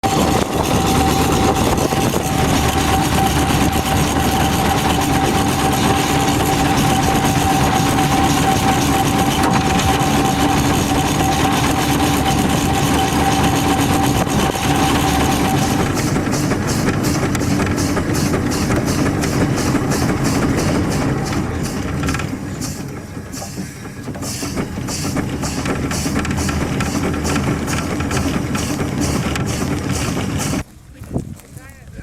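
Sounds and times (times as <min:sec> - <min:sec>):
steam traction engine running: 0:00.0 - 0:31.9.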